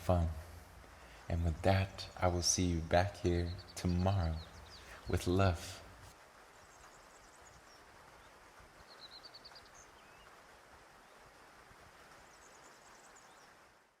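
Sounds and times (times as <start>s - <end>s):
small birds calling: 0.0s - 13.7s
low steady hiss: 0.0s - 14.0s.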